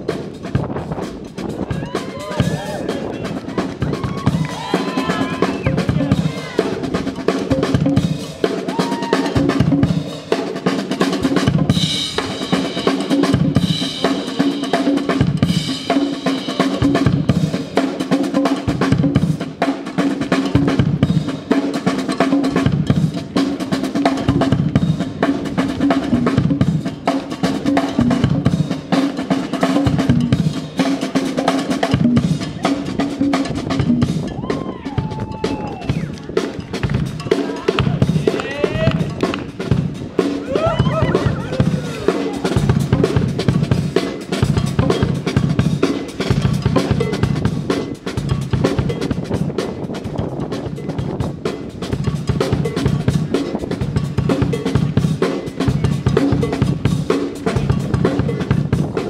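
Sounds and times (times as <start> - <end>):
snare and hand drum strokes: 0.0 - 59.0.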